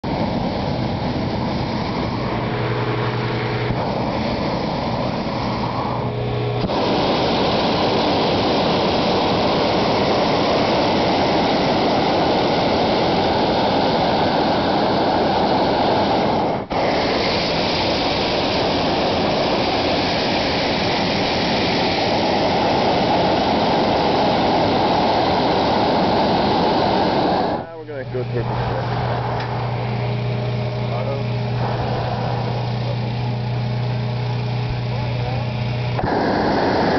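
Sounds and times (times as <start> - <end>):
propane burner firing: 0.0 - 36.9.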